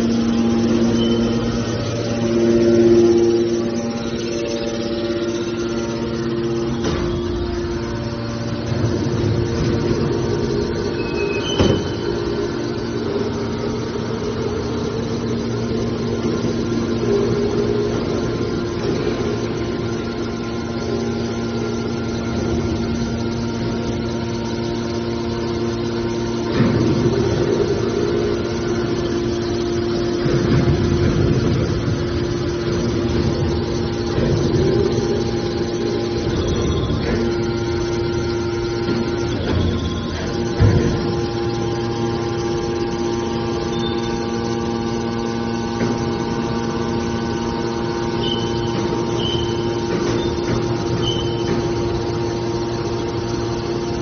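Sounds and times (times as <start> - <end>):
car baler mechanical hum: 0.0 - 54.0.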